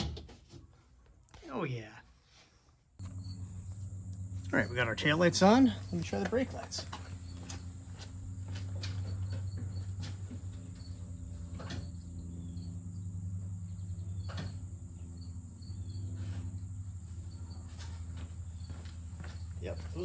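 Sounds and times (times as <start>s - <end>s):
low electrical hum: 2.8s - 20.0s
crickets chirping: 3.0s - 20.0s.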